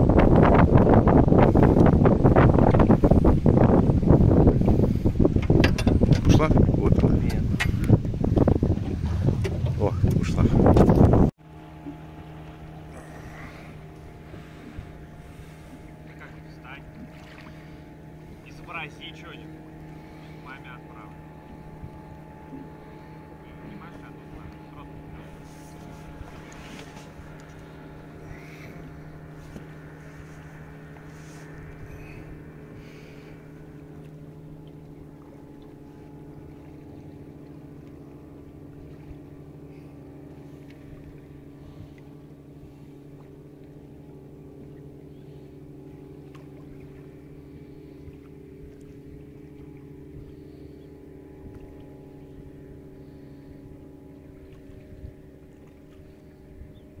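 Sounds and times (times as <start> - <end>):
outboard motor idling: 0.0 - 57.0.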